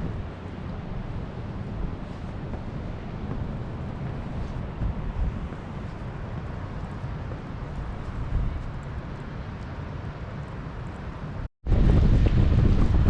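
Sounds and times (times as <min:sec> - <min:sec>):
blizzard wind buffeting microphone: 0:00.0 - 0:13.0.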